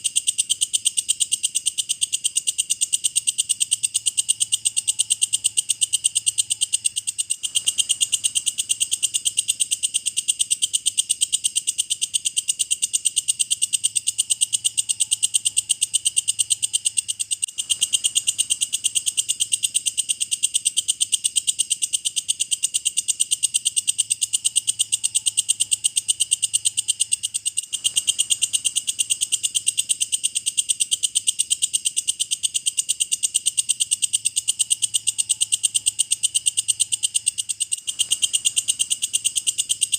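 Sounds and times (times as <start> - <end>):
insect clicking call: 0.0 - 39.9.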